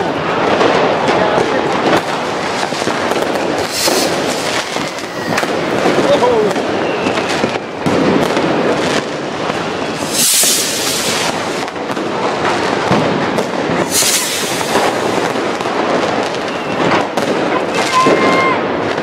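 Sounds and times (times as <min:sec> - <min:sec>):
firecracker bangs: 0:00.0 - 0:19.0
hissing crackle bursts: 0:00.6 - 0:18.9.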